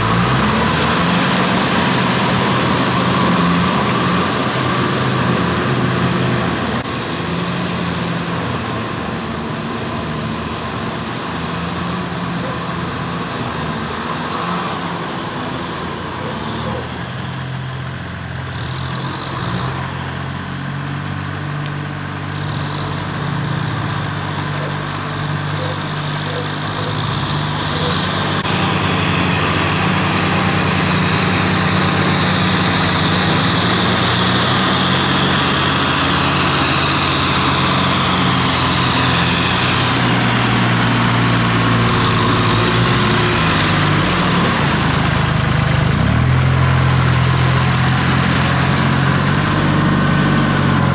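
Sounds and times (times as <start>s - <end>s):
tractor diesel engines running: 0.0s - 50.9s.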